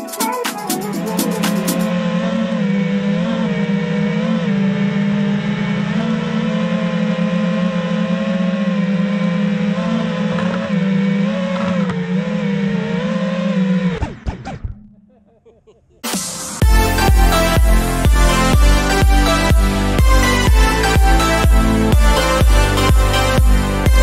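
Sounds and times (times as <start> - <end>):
drone motors whining: 0.0 - 14.9, 16.0 - 24.0.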